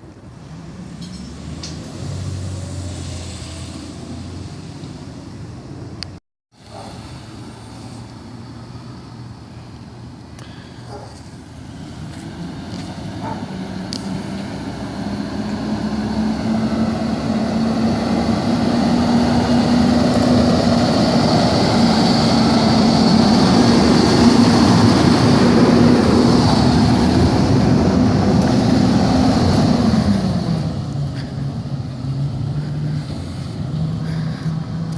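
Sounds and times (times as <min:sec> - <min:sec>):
diesel engine droning: 0:06.6 - 0:34.9.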